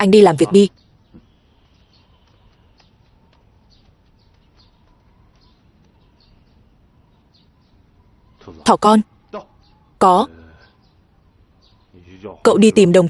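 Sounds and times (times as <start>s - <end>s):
faint bird chirps: 0.0s - 13.0s
outdoor background hiss: 0.0s - 13.0s.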